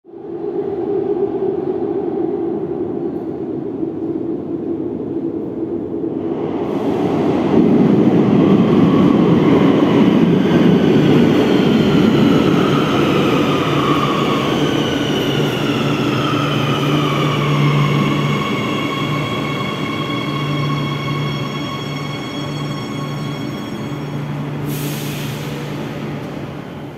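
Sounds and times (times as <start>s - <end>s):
electric train rumble: 0.1s - 26.9s.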